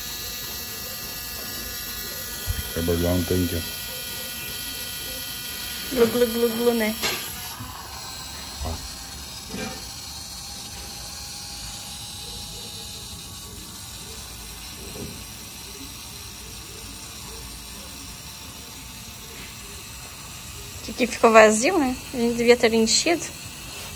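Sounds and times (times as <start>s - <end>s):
fuel pump running: 0.0s - 23.9s.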